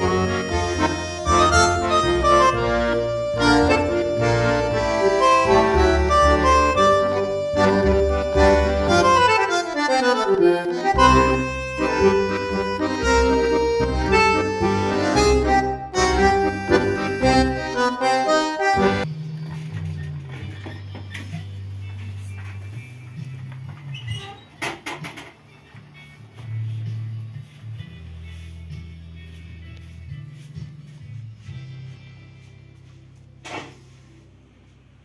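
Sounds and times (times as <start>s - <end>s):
instrumental music with bass line: 0.0s - 24.3s, 25.4s - 35.0s.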